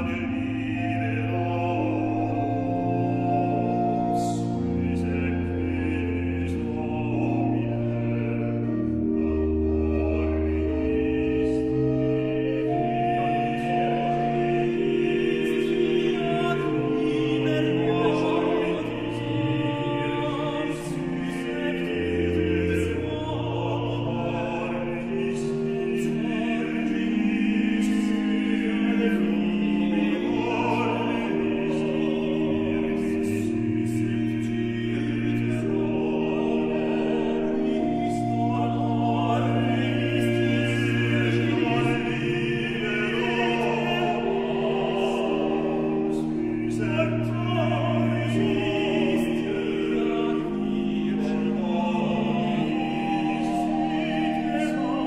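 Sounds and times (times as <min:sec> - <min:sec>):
choir with baroque orchestra: 0:00.0 - 0:55.0.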